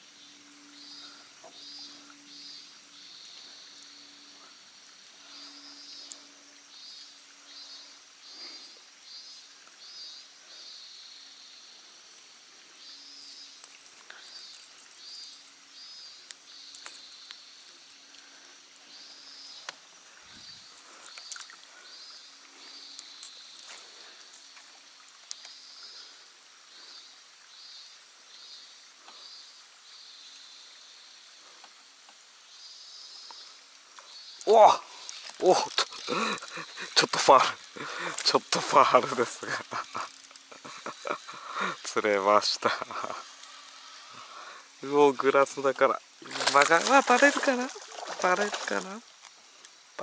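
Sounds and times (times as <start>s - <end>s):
cicadas singing: 0.0s - 50.0s.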